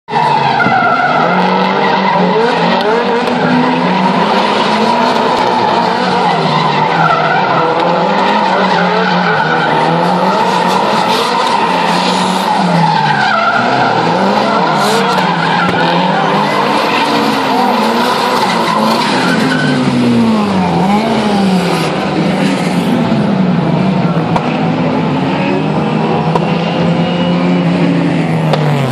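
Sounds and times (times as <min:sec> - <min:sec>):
car engines revving: 0:00.1 - 0:28.9
tyres skidding and squealing: 0:00.1 - 0:28.9.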